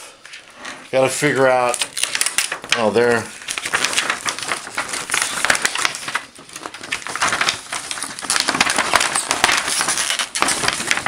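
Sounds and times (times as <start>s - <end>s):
plastic sheet crackling: 0.3s - 11.0s.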